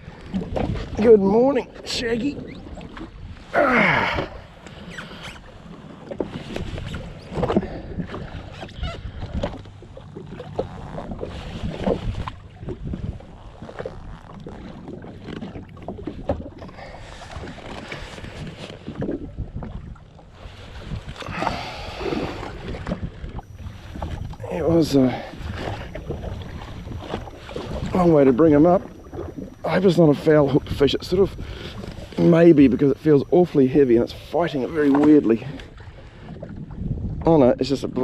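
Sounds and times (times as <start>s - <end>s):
small waves slapping against hull: 0.0s - 38.0s.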